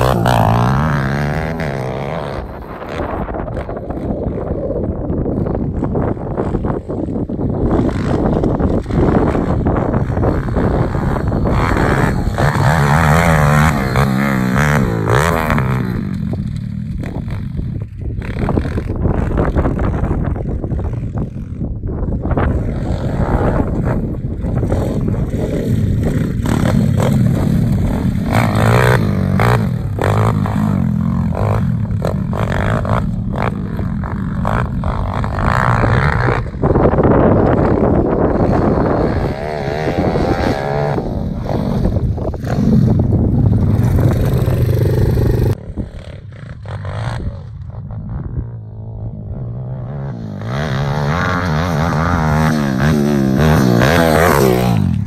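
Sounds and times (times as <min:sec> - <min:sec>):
motorbike engine revving: 0:00.0 - 0:04.5, 0:05.7 - 0:55.0.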